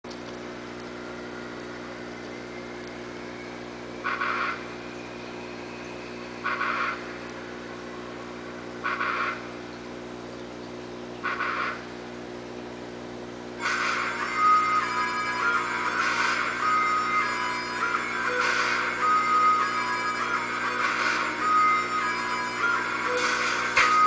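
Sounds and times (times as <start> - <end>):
aquarium equipment humming: 0.1 - 24.0.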